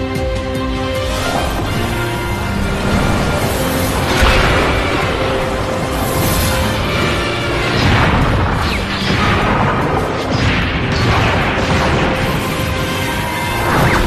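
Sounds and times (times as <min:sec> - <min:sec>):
dramatic background music: 0:00.0 - 0:14.0
booming impacts and crashes: 0:00.9 - 0:14.0.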